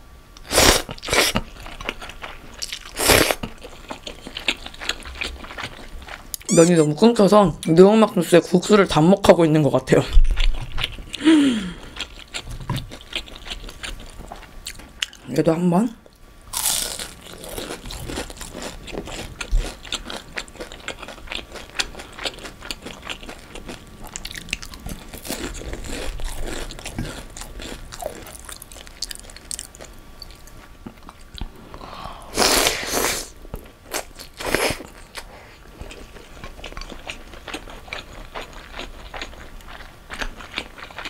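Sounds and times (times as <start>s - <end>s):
crackly chewing: 0.4s - 6.5s, 10.1s - 15.2s, 16.0s - 31.6s, 33.4s - 41.0s.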